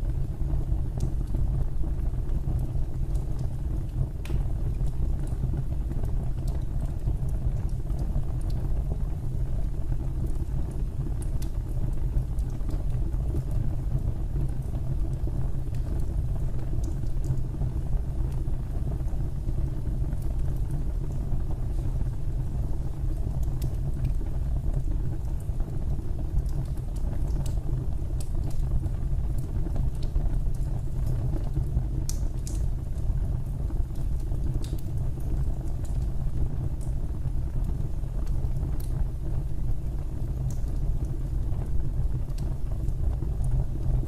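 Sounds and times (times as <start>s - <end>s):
fire crackling and popping: 0.0s - 44.0s
fire rumbling: 0.0s - 44.0s.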